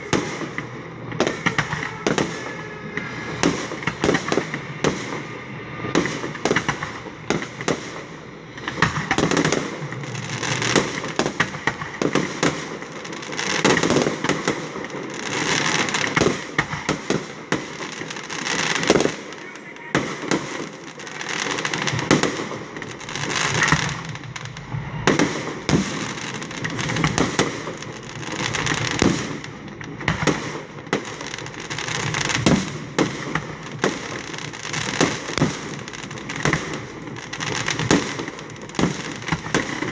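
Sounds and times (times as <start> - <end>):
fireworks bangs: 0.0 - 39.9
sparkling fireworks crackle: 0.0 - 39.9.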